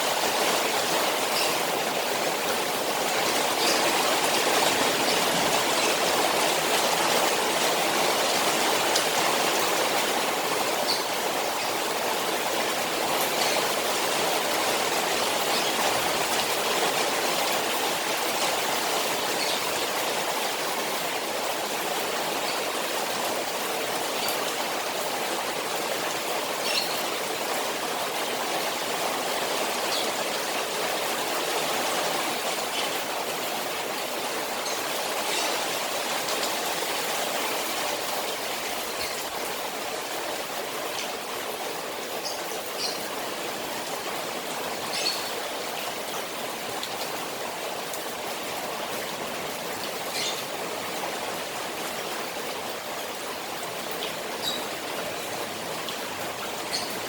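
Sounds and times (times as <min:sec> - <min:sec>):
rain falling on a pond: 0:00.0 - 0:57.0.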